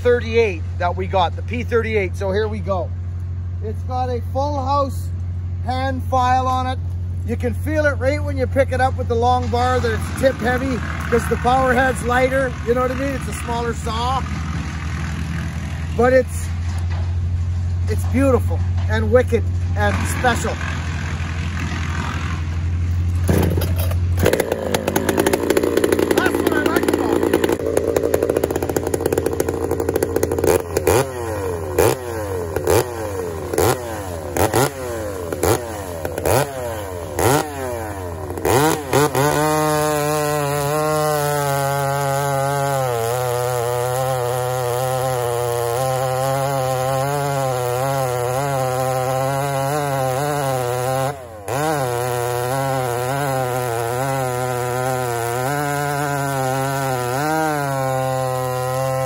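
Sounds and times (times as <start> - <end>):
chainsaw cutting through log: 0.0 - 59.0
chainsaw revving: 5.7 - 59.0.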